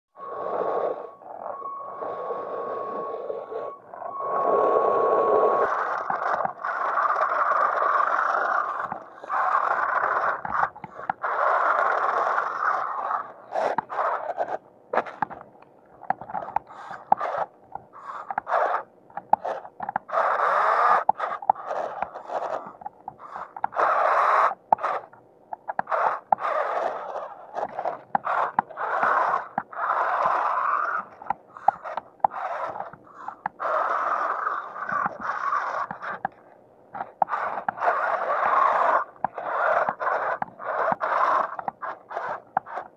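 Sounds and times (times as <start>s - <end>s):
toy car motors whirring: 0.2s - 42.9s.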